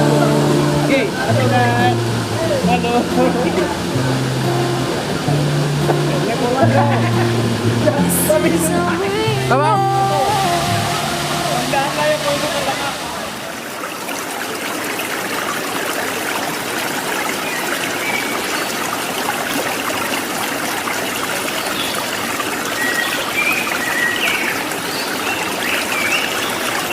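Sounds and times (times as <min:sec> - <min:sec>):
waterfall stream flowing: 0:00.0 - 0:26.9.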